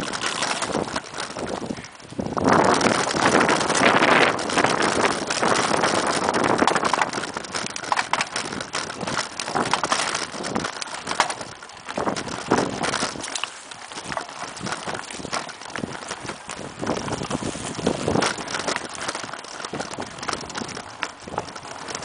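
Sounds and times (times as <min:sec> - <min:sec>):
bike rattling and knocking: 0:00.0 - 0:22.0
bike tyres on dirt: 0:00.0 - 0:22.0
wind buffeting microphone: 0:00.0 - 0:22.0.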